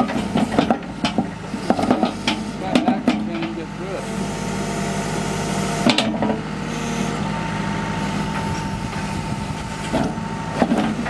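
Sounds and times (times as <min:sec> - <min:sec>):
diesel engine under load: 0:00.0 - 0:11.0
hydraulic whine: 0:00.0 - 0:11.0.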